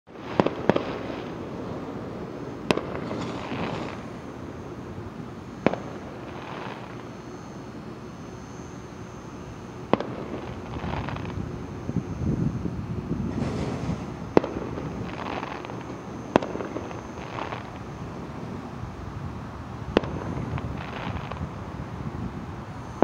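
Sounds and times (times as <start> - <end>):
fireworks bangs: 0.1 - 8.0, 9.4 - 18.8, 19.8 - 22.3
drawn-out fireworks noise: 0.1 - 23.0.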